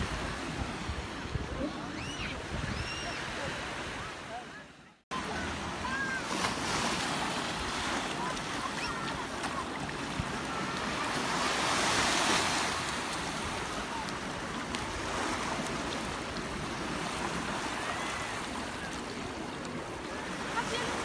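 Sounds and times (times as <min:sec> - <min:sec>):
waves washing onto beach: 0:00.0 - 0:21.0.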